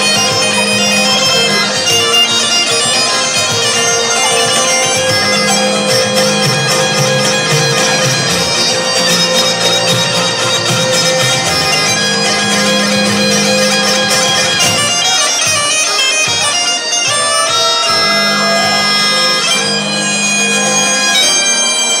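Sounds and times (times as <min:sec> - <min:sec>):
bagpipes playing a lively tune: 0:00.0 - 0:22.0
live band playing: 0:00.0 - 0:22.0.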